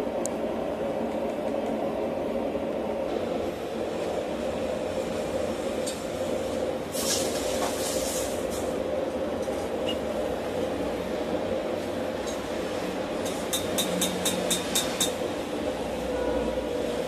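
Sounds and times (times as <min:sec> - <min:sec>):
gas forge burner rushing: 0:00.0 - 0:17.0.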